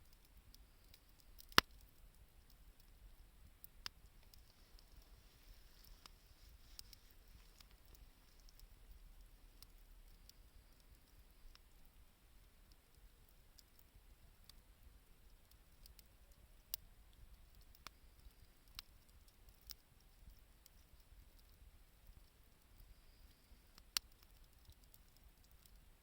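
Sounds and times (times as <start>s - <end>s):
wood fire pops and ticks: 0.0s - 26.0s.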